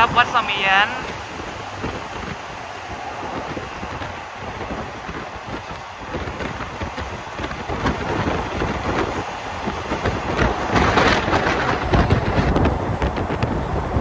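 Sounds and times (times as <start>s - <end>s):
loud rush: 0.0s - 14.0s
train wheels rumbling on rails: 0.0s - 14.0s
wind buffeting microphone: 0.0s - 14.0s.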